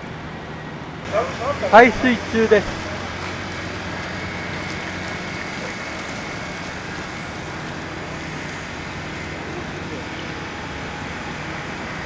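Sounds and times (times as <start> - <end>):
pump engine humming: 1.1 - 12.0.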